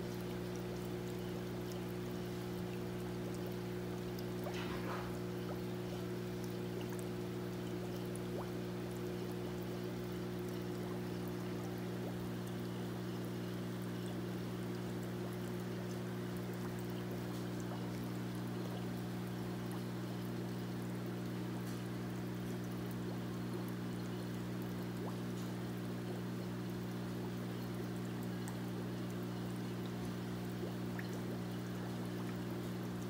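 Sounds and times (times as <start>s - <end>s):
water splashing into tank: 0.0s - 33.0s.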